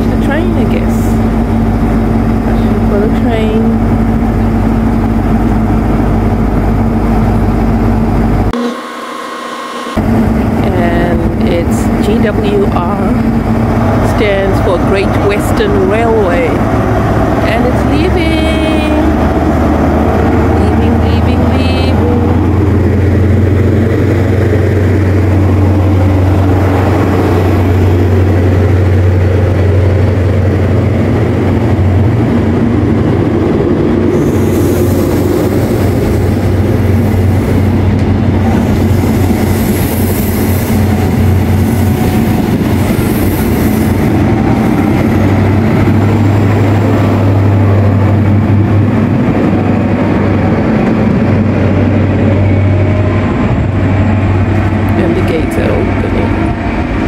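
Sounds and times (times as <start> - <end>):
train coaches rolling: 0.0 - 8.7, 10.0 - 57.0
diesel train engine drone: 0.0 - 57.0.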